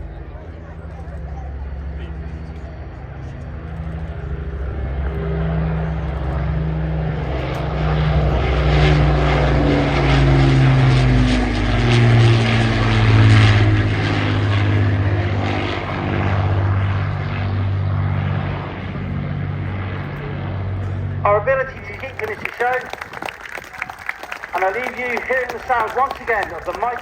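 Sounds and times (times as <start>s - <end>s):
propeller plane flying past: 0.0s - 27.0s.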